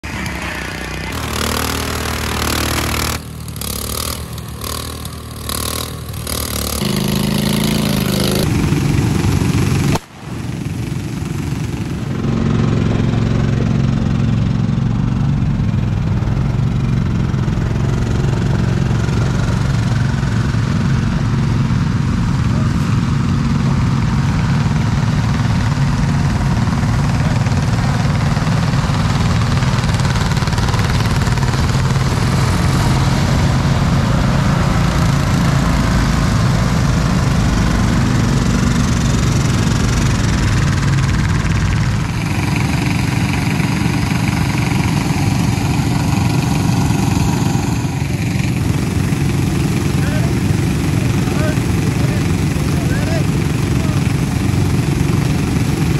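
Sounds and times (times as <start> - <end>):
lawn mower engines droning: 0.0 - 55.9.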